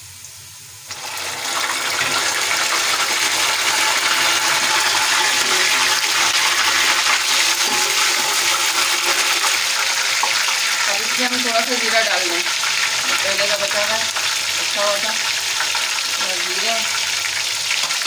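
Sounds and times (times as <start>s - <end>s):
tomatoes sizzling in hot oil: 0.0s - 18.0s.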